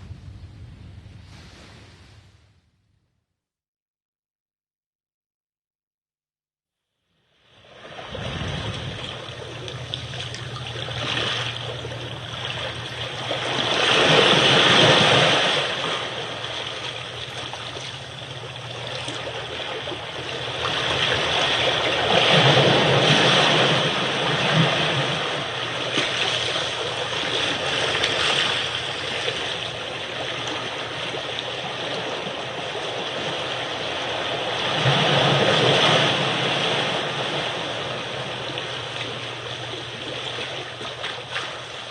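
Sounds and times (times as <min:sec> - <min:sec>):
sea waves washing on shore: 0:00.0 - 0:02.4, 0:07.6 - 0:41.9.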